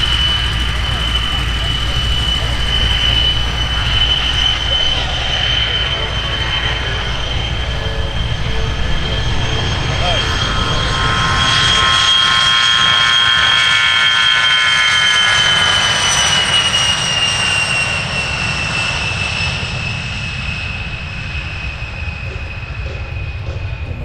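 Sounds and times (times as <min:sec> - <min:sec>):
airplane engine passing: 0:00.0 - 0:24.0.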